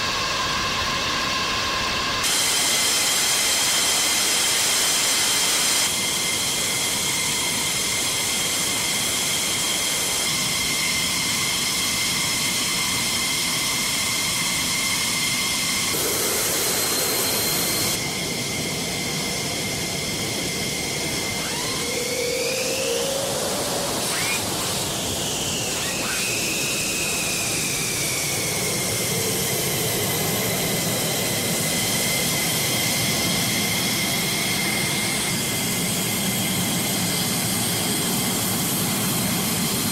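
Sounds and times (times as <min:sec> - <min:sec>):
jet engine roar: 0:00.0 - 0:39.9
jet turbine whine: 0:00.0 - 0:39.9.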